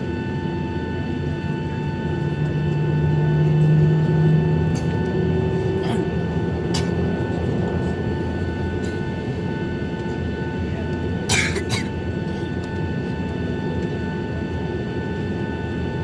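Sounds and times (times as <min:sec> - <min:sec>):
aircraft cabin hum: 0:00.2 - 0:15.9.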